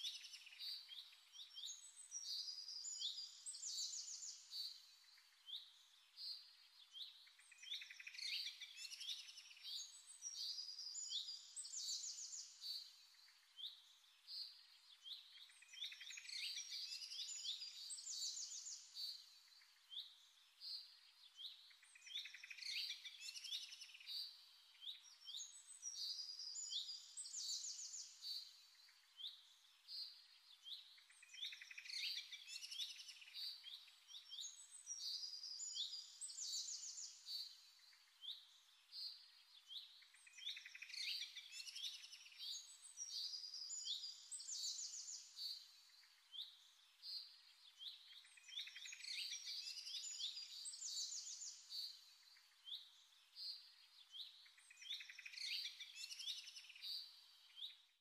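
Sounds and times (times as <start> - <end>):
small songbirds chirping and trilling: 0.0 - 58.0.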